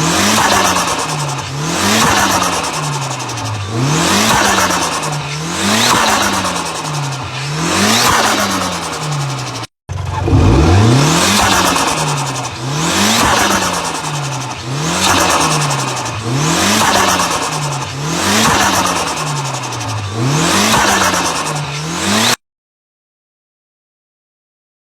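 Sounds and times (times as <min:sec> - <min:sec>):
diesel truck engine revving: 0:00.0 - 0:22.4.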